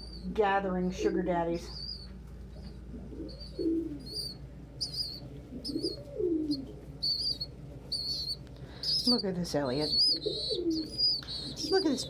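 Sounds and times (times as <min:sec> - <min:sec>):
young pigeon peeping: 0:00.0 - 0:12.0
pigeon cooing: 0:01.0 - 0:12.0.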